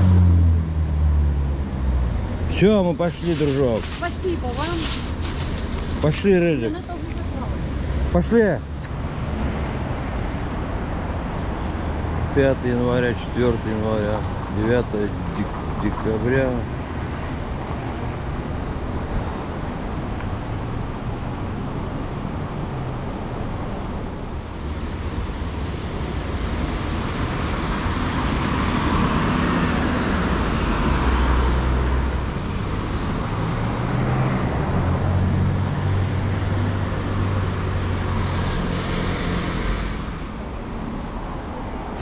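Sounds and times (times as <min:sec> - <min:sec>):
vehicles passing: 0:00.0 - 0:42.0.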